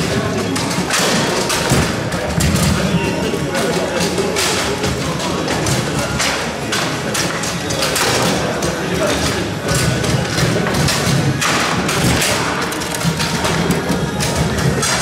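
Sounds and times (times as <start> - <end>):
background voices in a hall: 0.0 - 15.0
foosball knocks and clacks: 0.0 - 15.0.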